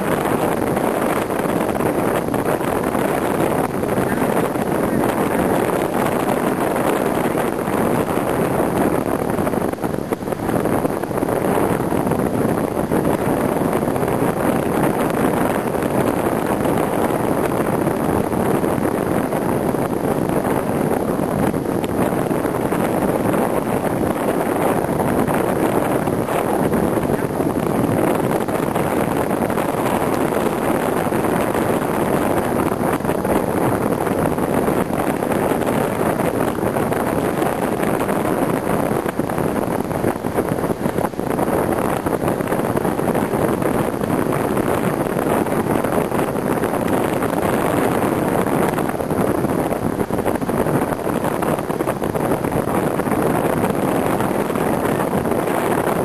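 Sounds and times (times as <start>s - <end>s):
wind blowing on microphone: 0.0s - 56.0s.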